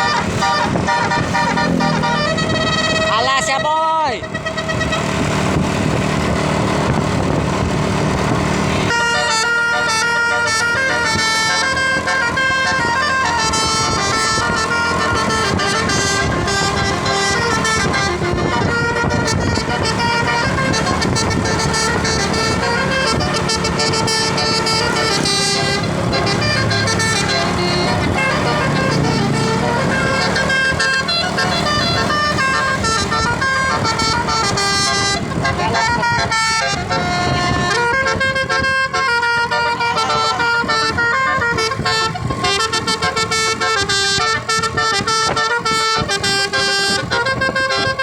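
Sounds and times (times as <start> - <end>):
air horn playing a melody: 0.0 - 5.9, 8.8 - 48.0
vehicle engine running: 0.0 - 48.0.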